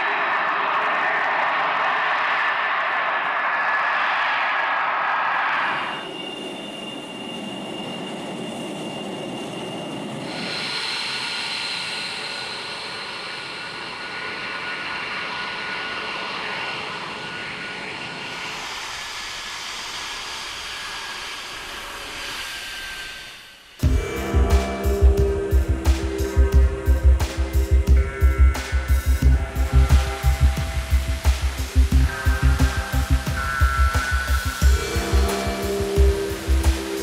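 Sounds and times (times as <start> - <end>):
jet engines running: 0.0 - 37.0.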